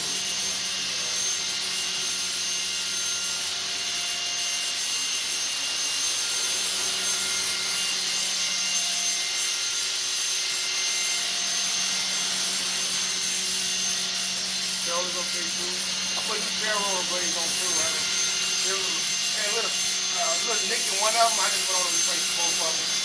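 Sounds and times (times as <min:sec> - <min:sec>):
rc helicopter motor whine: 0:00.0 - 0:23.0.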